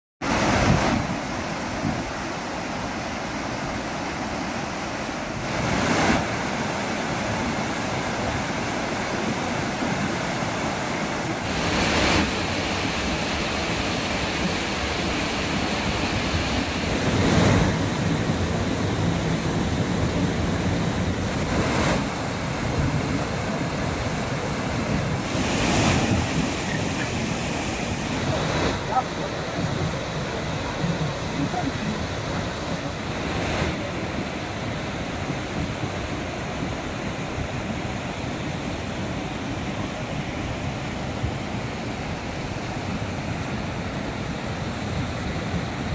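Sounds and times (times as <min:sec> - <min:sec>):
water rushing over rocks: 0:00.2 - 0:45.9.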